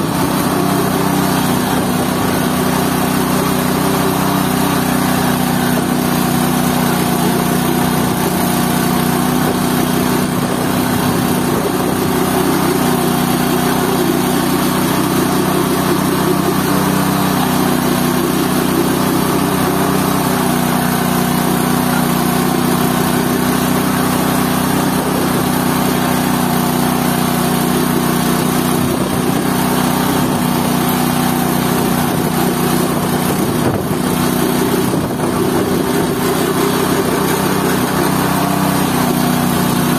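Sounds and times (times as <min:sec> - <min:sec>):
pulping machine running: 0:00.0 - 0:39.9.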